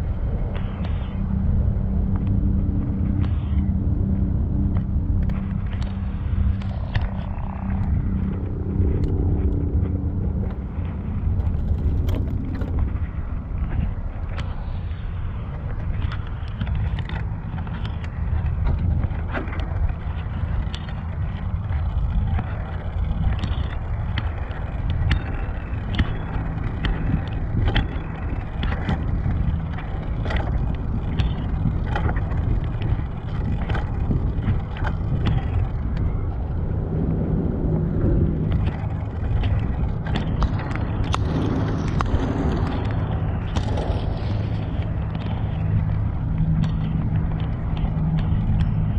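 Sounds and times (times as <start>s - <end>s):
road noise: 0.0s - 48.9s
wind rumble on microphone: 0.0s - 48.9s
bicycle clicks and rattles: 5.2s - 48.9s.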